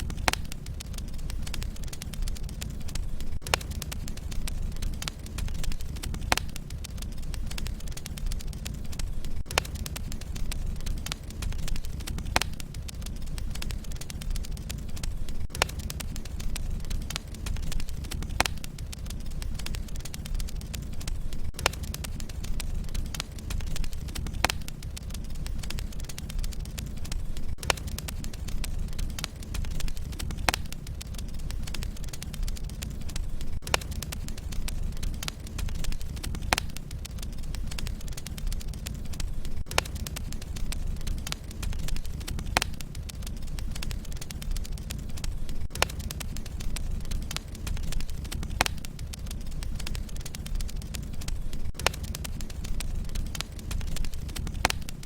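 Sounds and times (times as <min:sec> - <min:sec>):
fire crackling: 0:00.0 - 0:55.0
loud fire pops: 0:00.0 - 0:55.0
low rumble of flames: 0:00.0 - 0:55.0.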